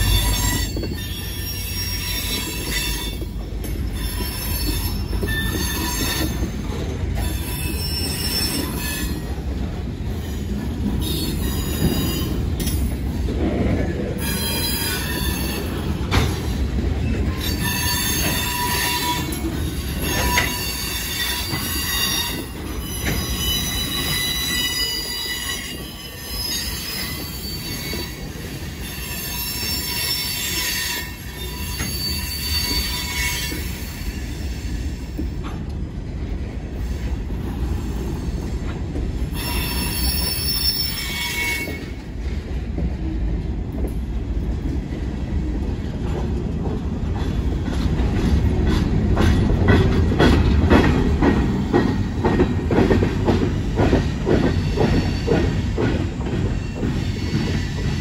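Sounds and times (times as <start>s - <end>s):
train wheel flanges squealing: 0.0s - 35.7s, 36.7s - 42.3s, 47.1s - 58.0s
wheels rumbling on rail: 0.0s - 58.0s.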